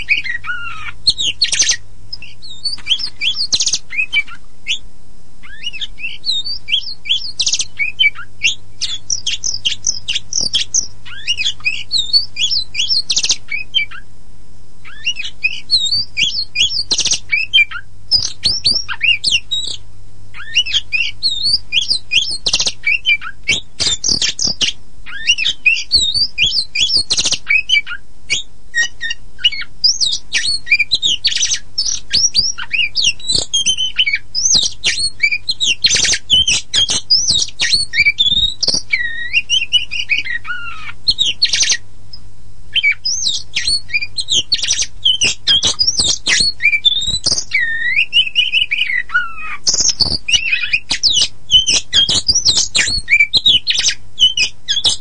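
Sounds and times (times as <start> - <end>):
bird singing varied song: 0.0 - 14.1, 14.8 - 55.0
faint low hum: 0.0 - 55.0.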